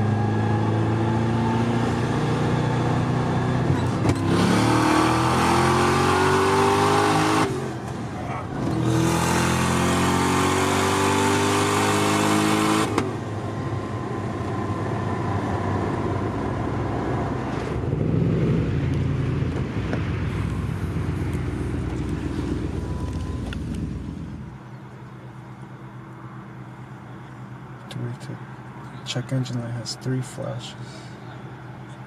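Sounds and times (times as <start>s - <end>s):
car engine at full throttle: 0.0s - 32.0s
road noise: 0.0s - 32.0s.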